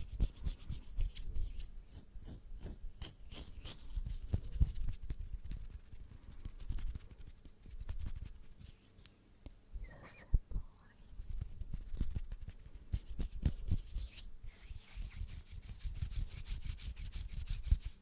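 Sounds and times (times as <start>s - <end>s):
hands rubbing at microphone: 0.0s - 9.0s, 11.0s - 18.0s.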